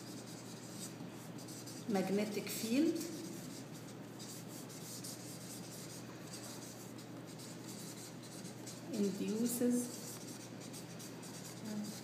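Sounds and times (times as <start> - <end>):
marker pen scratching paper: 0.0 - 12.0
steady low hum: 0.0 - 12.0.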